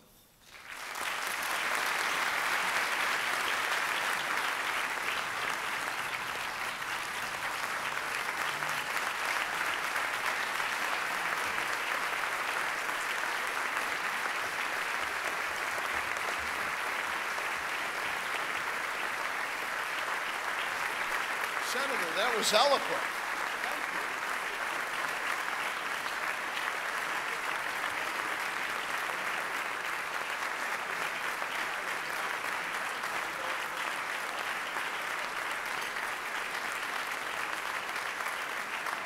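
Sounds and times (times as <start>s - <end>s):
large audience applauding: 0.5s - 39.0s.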